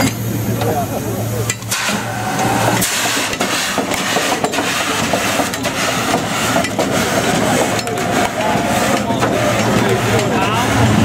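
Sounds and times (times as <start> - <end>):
steam engine hissing and puffing: 0.0 - 11.0.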